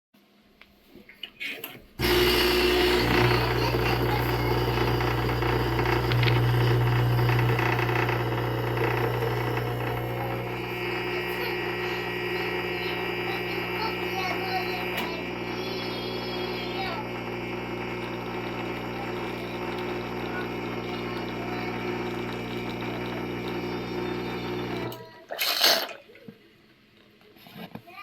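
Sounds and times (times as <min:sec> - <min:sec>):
espresso machine pump humming: 0:02.0 - 0:25.0.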